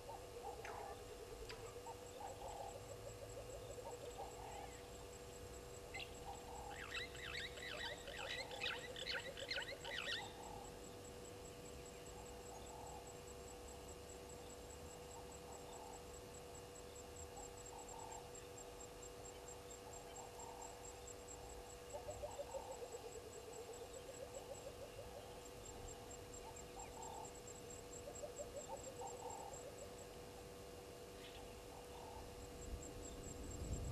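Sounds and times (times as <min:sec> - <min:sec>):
high insect trill: 0:00.0 - 0:33.9.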